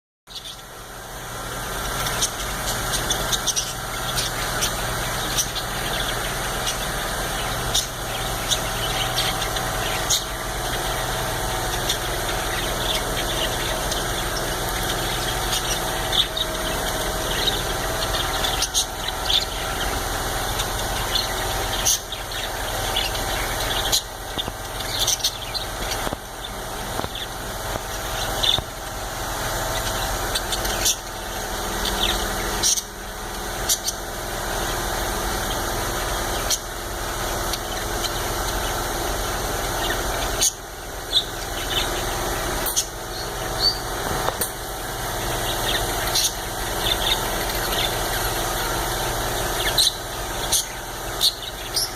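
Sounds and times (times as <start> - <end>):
budgerigars chirping: 0.3 - 0.7, 1.4 - 51.9
steady mechanical hum: 0.3 - 51.9.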